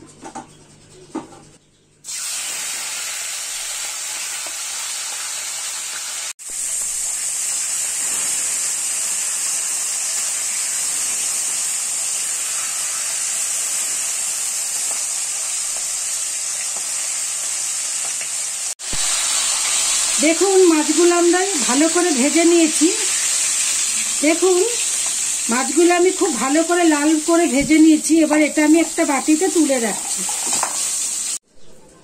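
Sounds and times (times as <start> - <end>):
fish sizzling in hot oil: 2.0 - 31.4.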